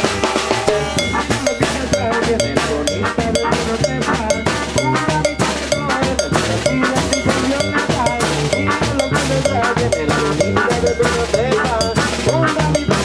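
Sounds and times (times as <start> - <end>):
bass drum: 0.0 - 13.0
saxophones playing melody: 0.0 - 13.0
timbales and cowbell rhythm: 0.0 - 13.0.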